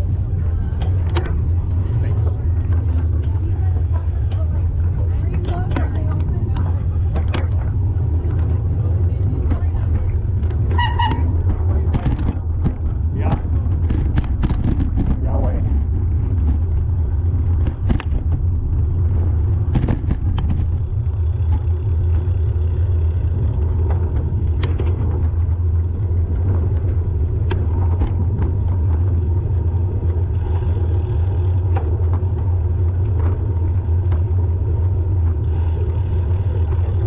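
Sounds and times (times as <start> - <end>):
motor vehicle rumble: 0.0 - 37.0.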